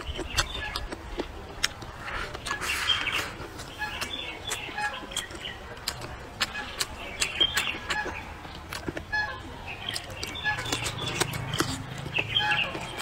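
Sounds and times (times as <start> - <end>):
birds chirping: 0.0 - 13.0
wet chewing and mouth smacks: 0.0 - 13.0.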